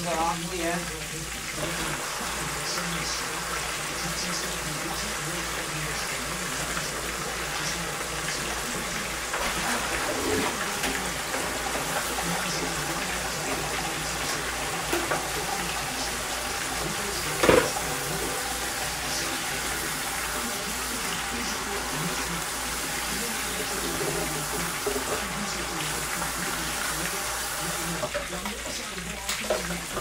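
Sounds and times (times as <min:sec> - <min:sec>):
faucet running over hands: 0:00.0 - 0:30.0.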